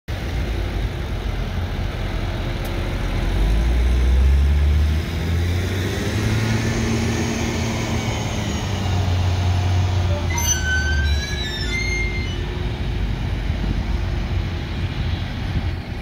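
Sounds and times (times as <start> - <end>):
tractor diesel engines droning: 0.1 - 16.0.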